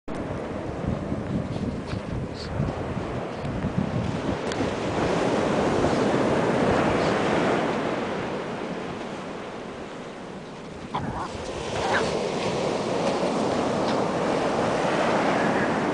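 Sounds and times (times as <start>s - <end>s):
wind buffeting microphone: 0.1s - 9.9s, 10.6s - 15.9s
ocean surf breaking: 2.8s - 15.9s.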